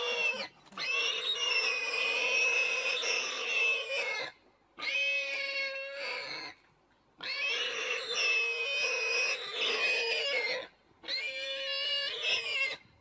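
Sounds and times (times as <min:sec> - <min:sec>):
warthog squealing in distress: 0:00.0 - 0:06.6, 0:07.2 - 0:12.9.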